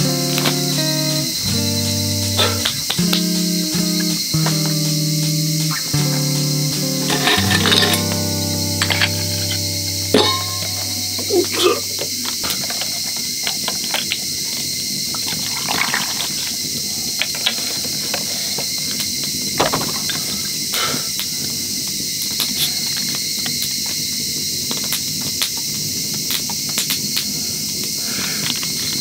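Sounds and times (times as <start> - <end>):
high insect chorus: 0.0 - 29.0.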